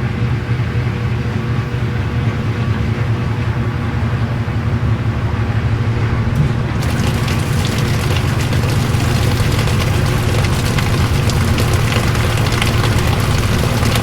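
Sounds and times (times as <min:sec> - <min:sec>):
washing machine humming: 0:00.0 - 0:14.0
dense crackling noise: 0:02.3 - 0:14.0.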